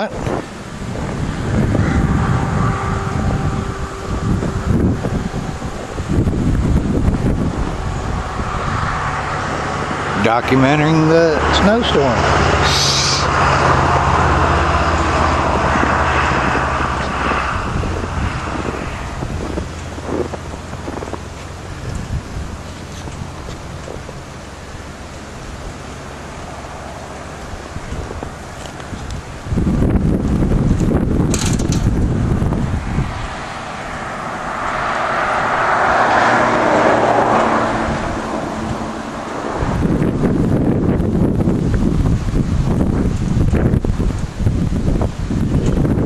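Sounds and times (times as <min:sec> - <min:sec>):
vehicle passing: 0:00.0 - 0:43.9
wind buffeting microphone: 0:00.0 - 0:46.0.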